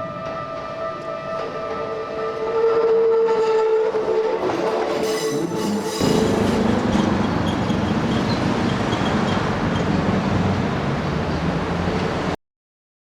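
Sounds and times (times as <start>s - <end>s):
train wheels rumbling on rails: 0.0s - 12.4s.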